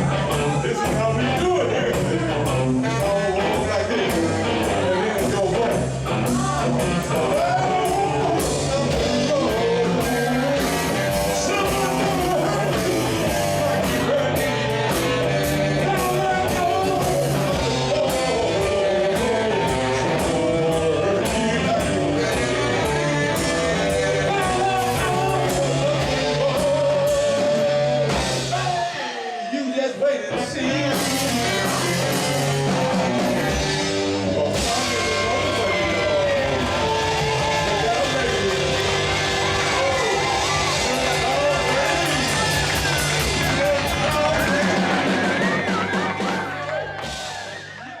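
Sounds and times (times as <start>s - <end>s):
guitar: 0.0s - 48.0s
live rock band: 0.0s - 48.0s
person singing: 0.0s - 48.0s.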